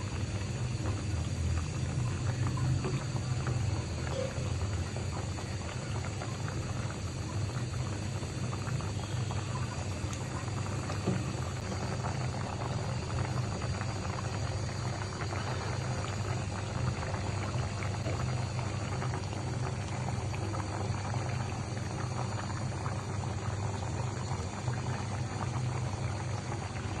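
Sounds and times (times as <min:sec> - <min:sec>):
curry bubbling in a pan: 0:00.0 - 0:27.0.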